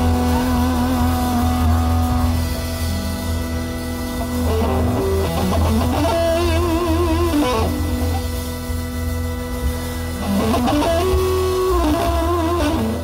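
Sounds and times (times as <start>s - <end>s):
bass line: 0.0s - 13.0s
electric guitar melody: 0.0s - 13.0s.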